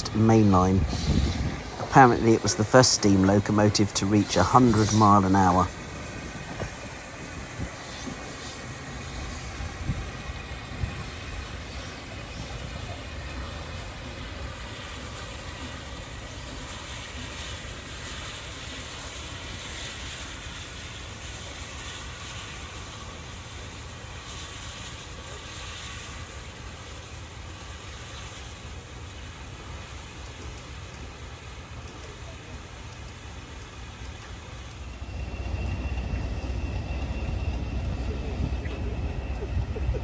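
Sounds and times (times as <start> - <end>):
locomotive low rumble: 0.0 - 40.0
steam hissing: 0.0 - 40.0.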